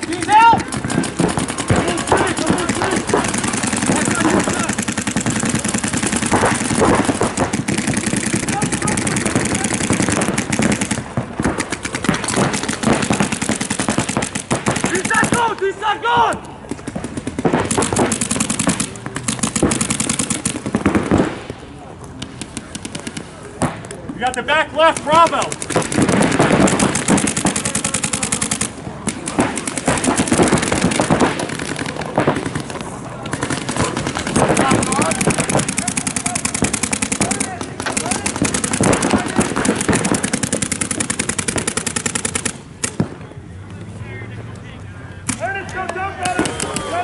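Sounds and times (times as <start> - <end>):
paintball markers firing: 0.0 - 43.1, 45.2 - 47.0.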